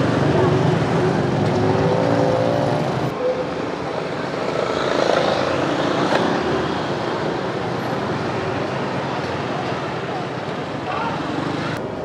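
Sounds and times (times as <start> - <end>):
motorbike and scooter engines: 0.0 - 12.0
street traffic: 0.0 - 12.0.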